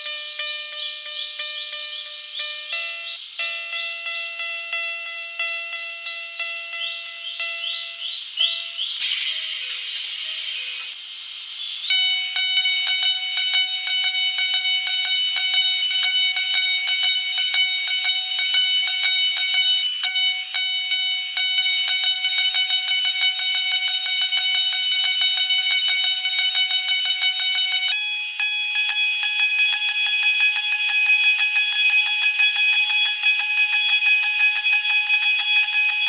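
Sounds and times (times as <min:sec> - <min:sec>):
level-crossing warning bell ringing: 0:00.0 - 0:08.8, 0:12.0 - 0:36.0.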